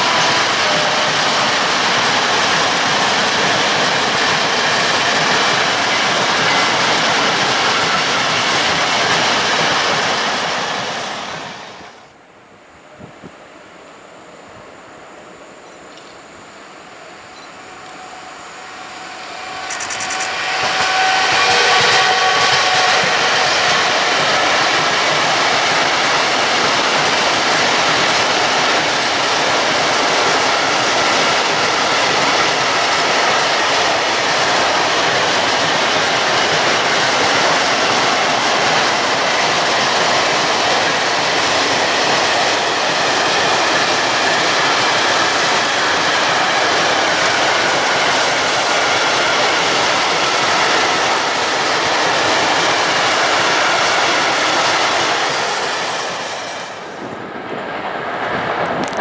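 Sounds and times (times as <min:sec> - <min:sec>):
train wheels rumbling on rails: 0:00.0 - 0:12.2, 0:15.5 - 0:59.0.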